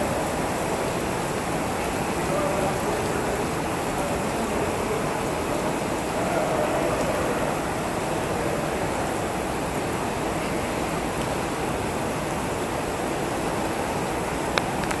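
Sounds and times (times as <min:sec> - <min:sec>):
water falling like heavy rain: 0:00.0 - 0:15.0.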